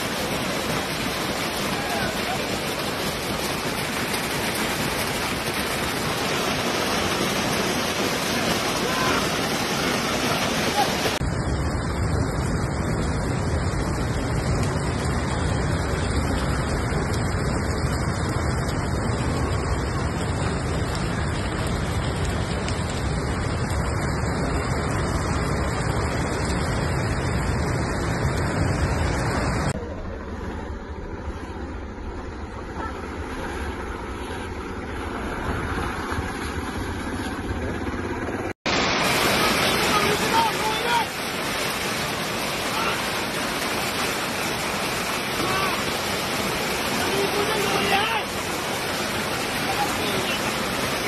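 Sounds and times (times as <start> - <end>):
heavy hail and rain pouring: 0.0 - 29.8, 38.7 - 51.0
car driving through floodwater: 0.0 - 51.0.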